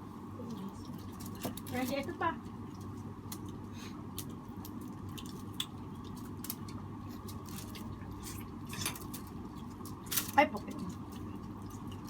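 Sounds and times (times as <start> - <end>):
steady low hum: 0.0 - 12.0
people eating and chewing: 0.3 - 12.0.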